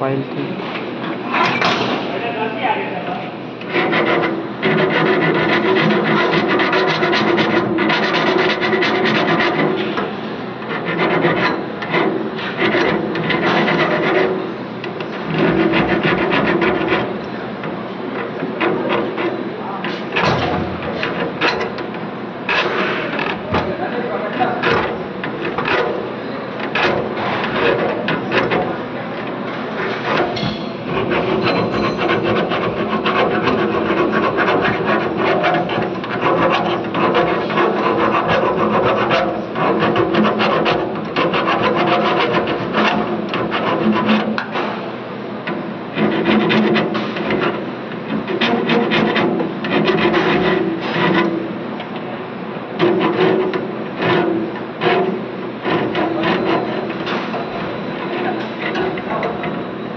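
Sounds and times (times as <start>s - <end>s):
hands rasping on insulated pipe: 3.6s - 28.8s, 29.7s - 59.7s.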